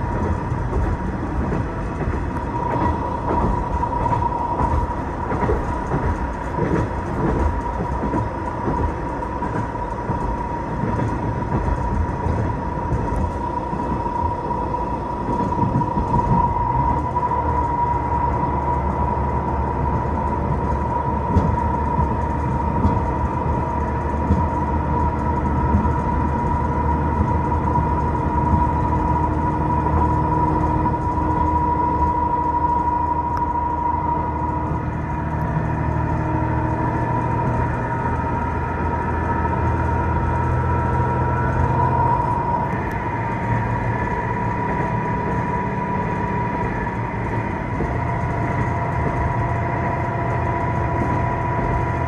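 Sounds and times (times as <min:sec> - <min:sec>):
high whine: 0:00.0 - 0:52.0
train wheels rumbling on rail: 0:00.0 - 0:52.0.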